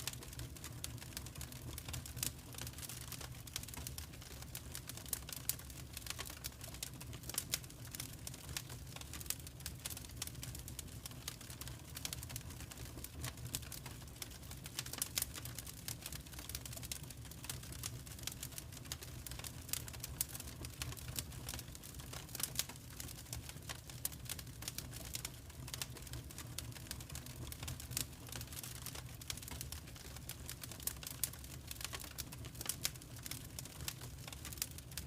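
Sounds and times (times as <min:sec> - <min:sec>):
wood fire crackling: 0:00.0 - 0:35.0
low rumble of flames: 0:05.9 - 0:35.0.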